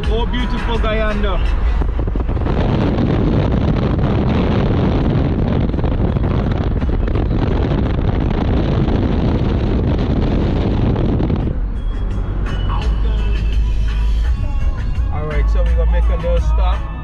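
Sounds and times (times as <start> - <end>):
wind rushing over microphone: 0.0 - 15.2
car road and engine noise: 0.0 - 17.0.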